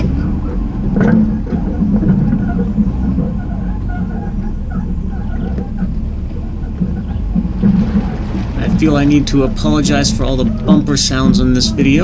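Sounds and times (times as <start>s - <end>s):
bumper knocking and rattling: 0.0s - 12.0s
low engine drone: 0.0s - 12.0s.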